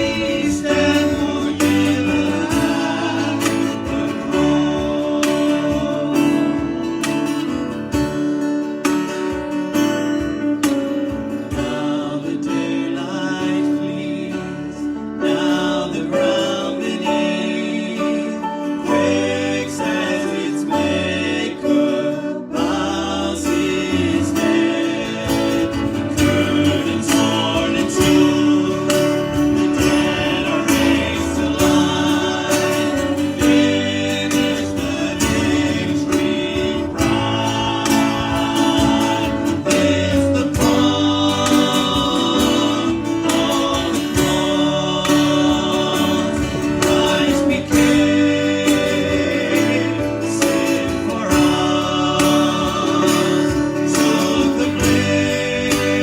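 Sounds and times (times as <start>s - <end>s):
guitar accompaniment: 0.0s - 56.0s
voices singing: 0.0s - 56.0s.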